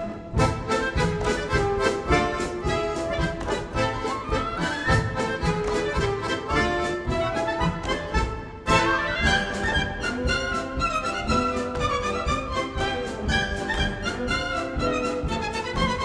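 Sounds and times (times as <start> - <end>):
accordion playing dance tune: 0.0 - 16.0.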